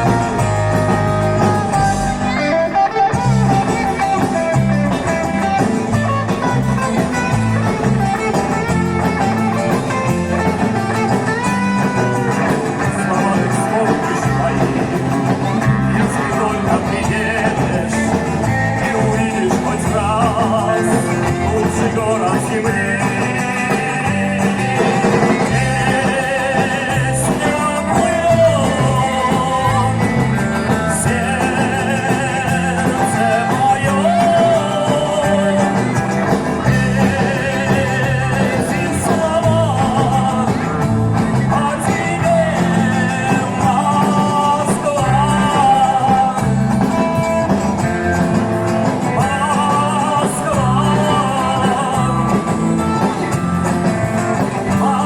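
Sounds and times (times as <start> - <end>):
live band playing a song: 0.0 - 55.0.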